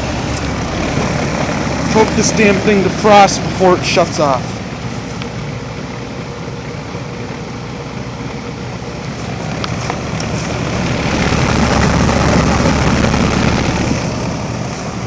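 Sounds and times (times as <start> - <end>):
heat pump unit running: 0.0 - 15.0.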